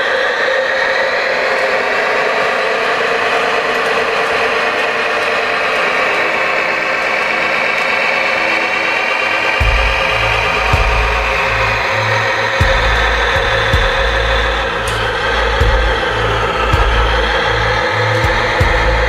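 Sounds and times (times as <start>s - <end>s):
electric drive and gears whining: 0.0s - 19.0s.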